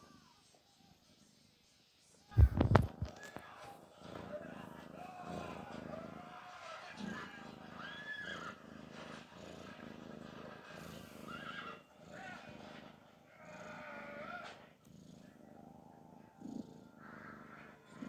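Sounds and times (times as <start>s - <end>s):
cat snoring: 2.3s - 18.0s.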